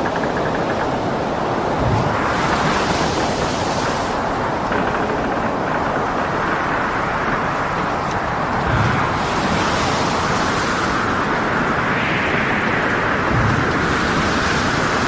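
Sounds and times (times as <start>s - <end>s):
heavy waves: 0.0s - 15.0s
wind: 0.0s - 15.0s.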